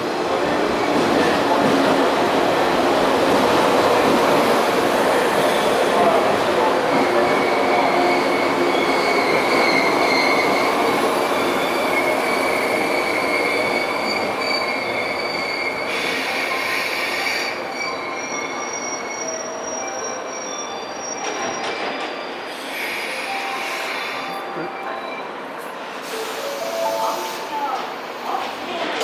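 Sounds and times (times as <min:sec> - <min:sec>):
electric train rolling rumble: 0:00.0 - 0:29.0.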